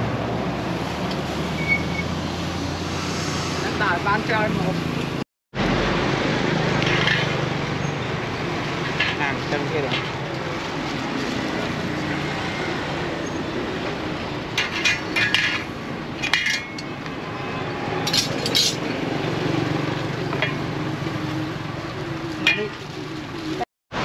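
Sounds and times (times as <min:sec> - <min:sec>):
street traffic noise: 0:00.0 - 0:24.0.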